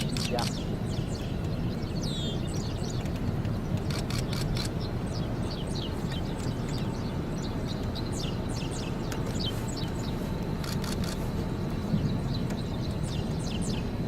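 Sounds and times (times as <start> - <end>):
birds chirping: 0.0 - 14.0
steady low rumble: 0.0 - 14.0.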